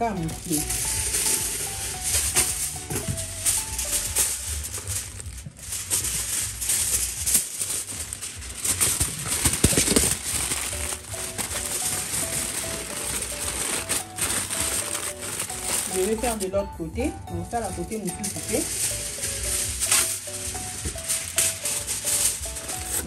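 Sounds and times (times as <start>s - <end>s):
aluminium foil crinkling: 0.0s - 16.5s, 17.8s - 23.0s
background music: 0.0s - 23.0s.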